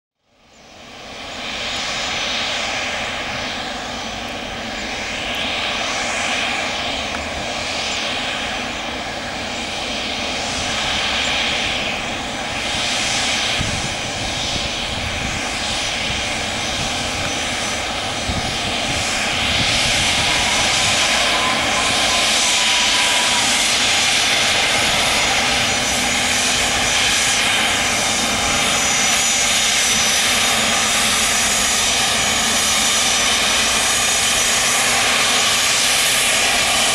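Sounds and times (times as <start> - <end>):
jet engines roaring with whine: 0.2 - 36.9.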